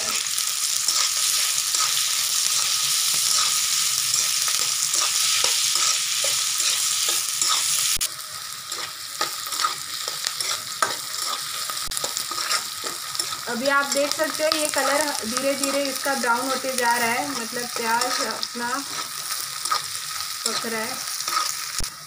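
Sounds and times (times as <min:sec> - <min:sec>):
onions sizzling in hot oil: 0:00.0 - 0:22.0
metal spatula scraping pan: 0:00.9 - 0:07.8, 0:08.7 - 0:15.0, 0:15.6 - 0:21.6.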